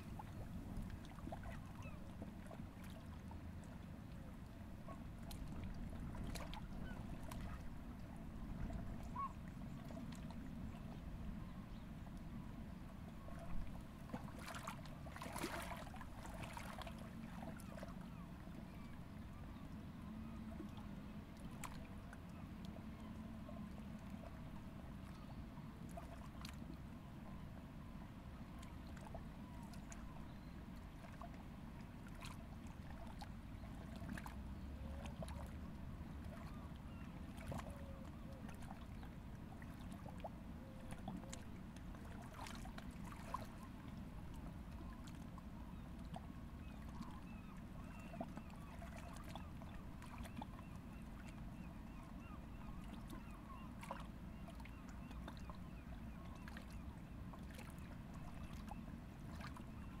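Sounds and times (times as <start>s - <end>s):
water birds calling: 0.0s - 60.0s
water lapping: 0.0s - 60.0s.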